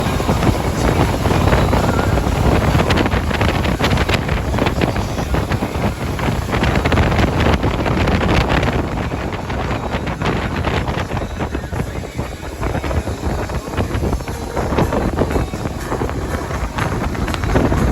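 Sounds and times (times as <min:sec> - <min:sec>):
boat hull and motor rushing: 0:00.0 - 0:17.9
wind buffeting microphone: 0:00.0 - 0:17.9.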